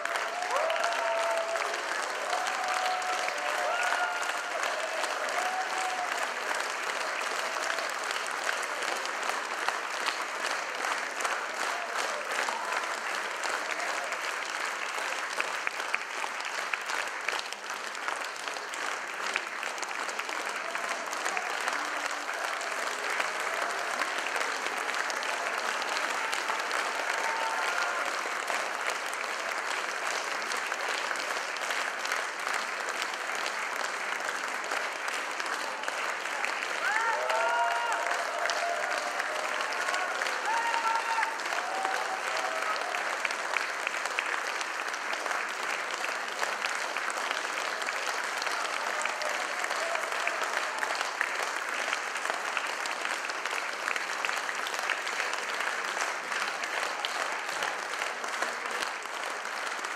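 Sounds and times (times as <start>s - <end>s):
audience applauding: 0.0s - 59.9s.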